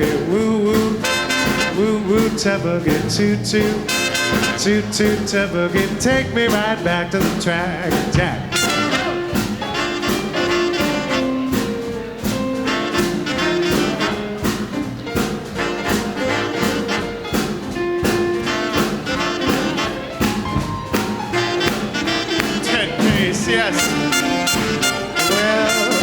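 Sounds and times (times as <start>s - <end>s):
big band brass and saxophones: 0.0s - 26.0s
steady drum beat: 0.0s - 26.0s.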